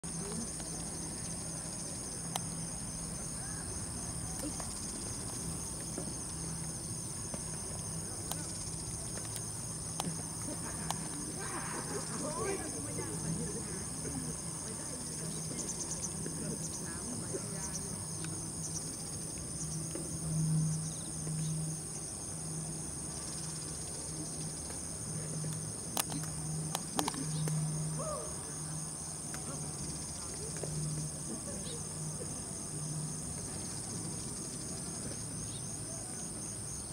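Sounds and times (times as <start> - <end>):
faint low hum: 0.0 - 36.9
insects chorus: 0.0 - 36.9.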